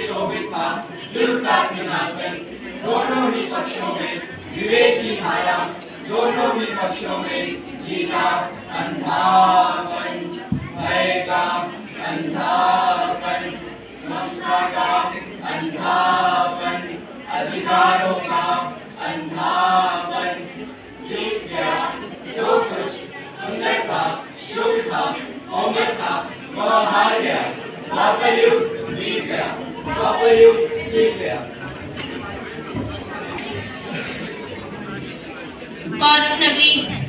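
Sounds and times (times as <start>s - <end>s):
voices singing a slow chant: 0.0s - 35.8s.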